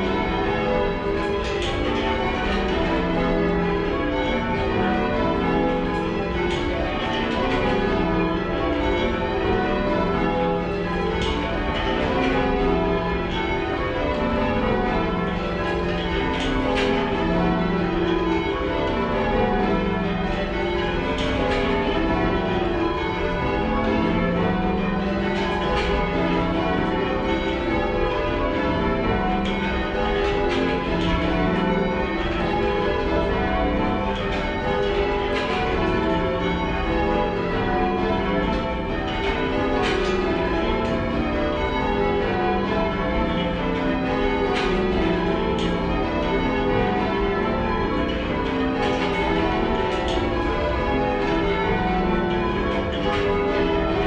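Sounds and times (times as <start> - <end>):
church bells change ringing: 0.0 - 54.0.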